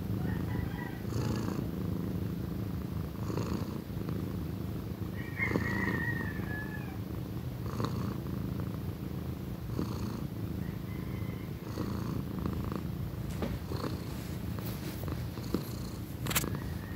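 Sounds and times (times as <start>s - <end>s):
cat purring loudly: 0.0s - 16.9s.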